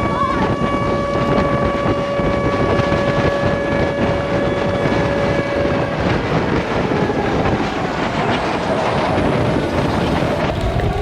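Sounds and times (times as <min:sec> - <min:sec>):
jet engine whine: 0:00.0 - 0:11.0
jet engines roaring: 0:00.0 - 0:11.0.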